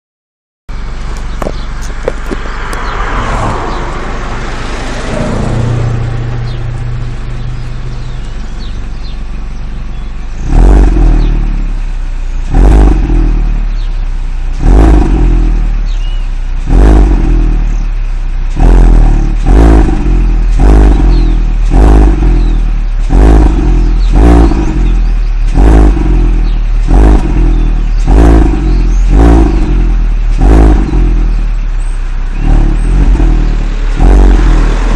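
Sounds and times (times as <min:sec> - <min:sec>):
car engine revving: 0:00.7 - 0:34.9.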